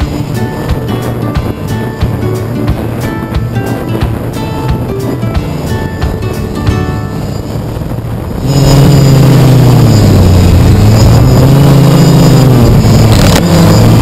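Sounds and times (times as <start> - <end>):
drone motors and propellers: 0.0 - 14.0.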